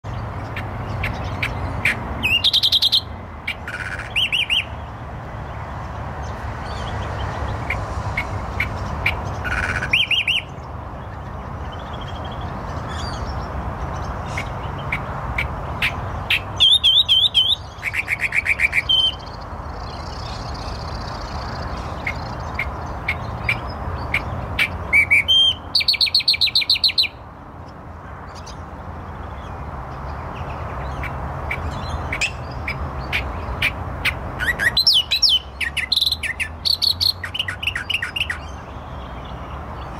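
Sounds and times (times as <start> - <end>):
reed-warbler singing: 0.0 - 39.9.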